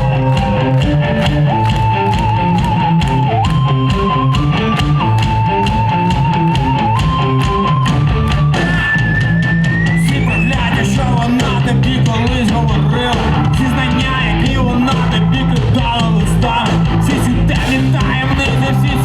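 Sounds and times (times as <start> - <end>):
rock band playing instrumental: 0.0 - 19.0.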